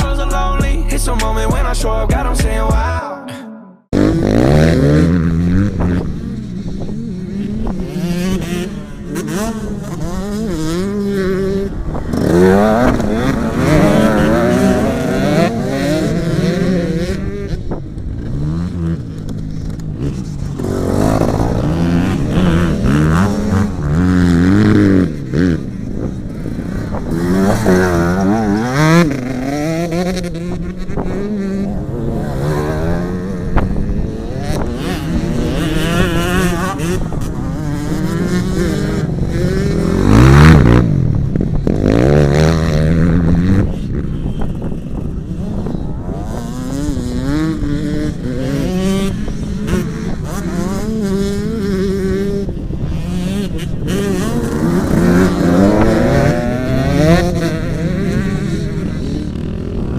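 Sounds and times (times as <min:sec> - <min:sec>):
dirt bike engines revving: 0:03.9 - 0:59.9.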